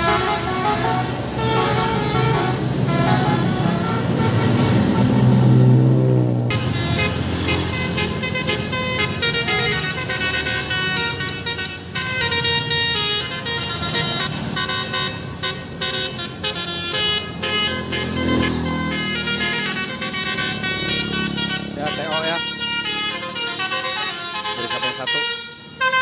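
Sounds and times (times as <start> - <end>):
multi-tone bus horn melody: 0.0 - 26.0.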